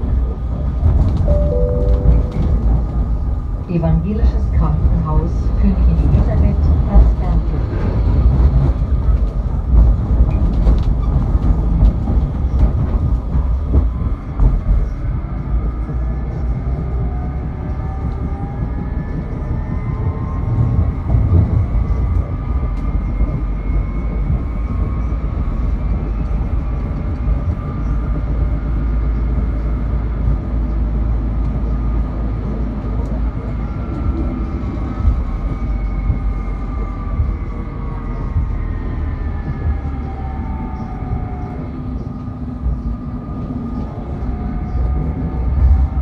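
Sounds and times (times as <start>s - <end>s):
tram drive whine rising: 0.0s - 46.0s
tram rumbling on rails: 0.0s - 46.0s.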